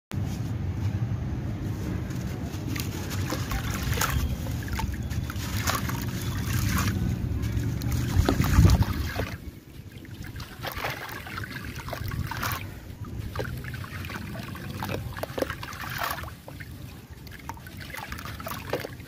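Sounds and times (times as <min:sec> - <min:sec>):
steady low rumble: 0:00.1 - 0:18.4.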